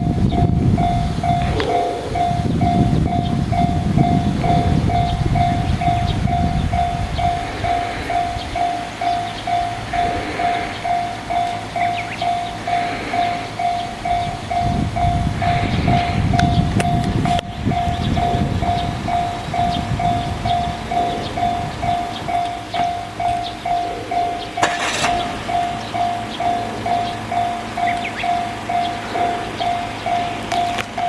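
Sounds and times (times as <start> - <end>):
electric train rumbling: 0.0 - 31.0
railroad crossing alarm dinging: 0.0 - 31.0.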